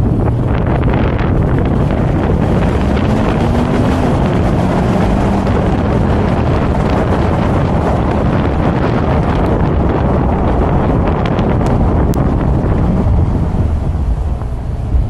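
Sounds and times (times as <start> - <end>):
car engine low tone: 0.0 - 15.0
wind noise on microphone: 0.0 - 15.0.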